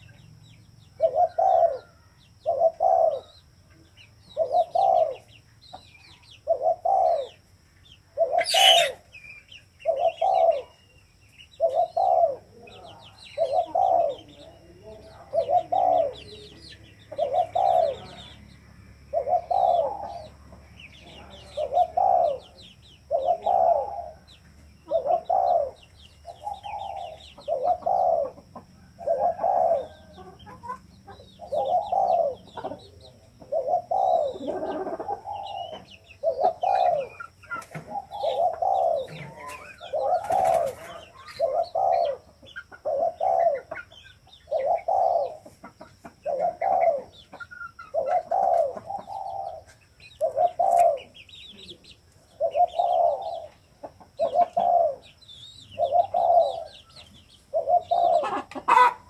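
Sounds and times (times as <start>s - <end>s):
small birds chirping: 0.0s - 59.0s
dove cooing: 0.9s - 3.4s, 4.3s - 5.3s, 6.4s - 7.5s, 8.1s - 9.2s, 9.8s - 10.9s, 11.5s - 18.4s, 19.0s - 59.0s.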